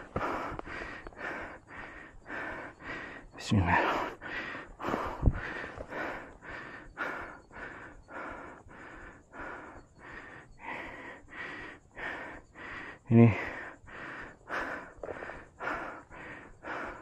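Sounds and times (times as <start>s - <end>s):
heavy rapid breathing: 0.0s - 17.0s.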